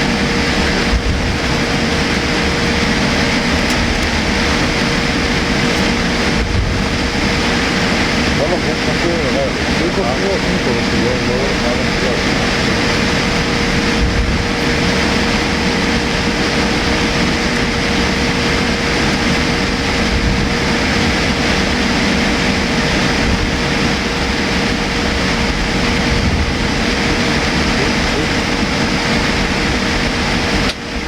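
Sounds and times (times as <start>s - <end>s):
airliner cabin roar: 0.0s - 31.0s
steady hum: 0.0s - 31.0s.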